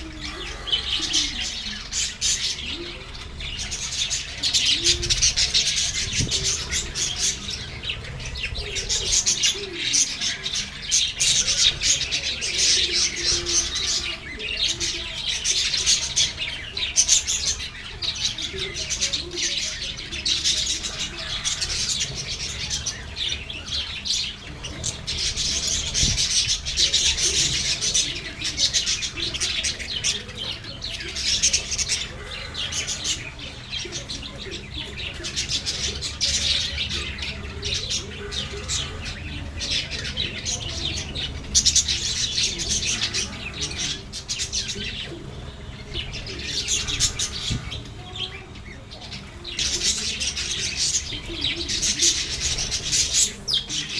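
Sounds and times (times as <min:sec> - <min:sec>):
birds chattering shrill chirps: 0:00.0 - 0:53.9.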